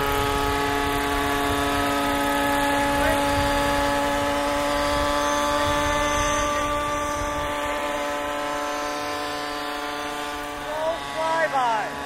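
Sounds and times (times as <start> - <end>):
model helicopter whine: 0.0 - 12.0.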